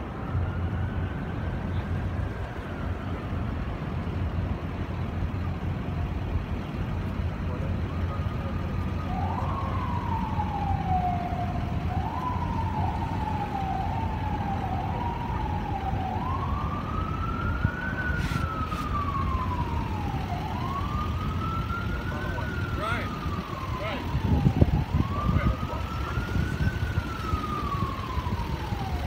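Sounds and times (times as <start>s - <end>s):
emergency siren wailing: 0.0s - 29.0s.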